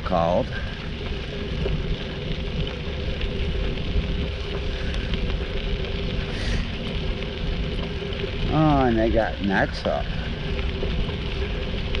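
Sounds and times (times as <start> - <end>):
bicycle tyres on gravel: 0.0 - 12.0
wind rumbling on microphone: 0.0 - 12.0.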